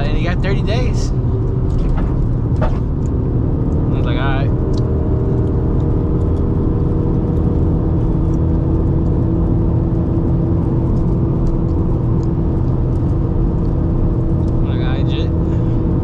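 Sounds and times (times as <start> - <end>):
car cabin road noise: 0.0 - 16.0.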